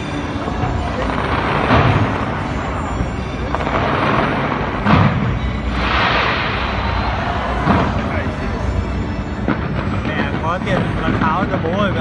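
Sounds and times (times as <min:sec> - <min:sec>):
firework shells booming: 0:00.0 - 0:11.8
music playing: 0:00.0 - 0:12.0
noisy rumble: 0:00.0 - 0:12.0.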